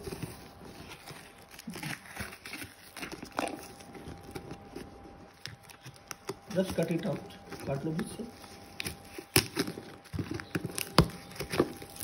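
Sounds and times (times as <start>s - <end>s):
knife cutting tape and cardboard: 0.0s - 12.0s
tape being peeled: 0.0s - 12.0s.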